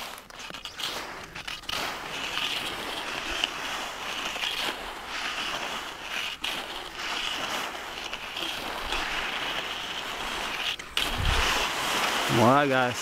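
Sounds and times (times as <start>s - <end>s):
skis scraping over packed snow: 0.0s - 13.0s.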